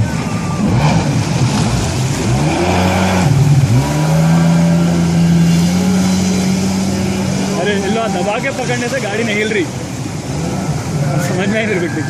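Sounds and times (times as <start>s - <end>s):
jet ski engine revving: 0.1s - 11.6s.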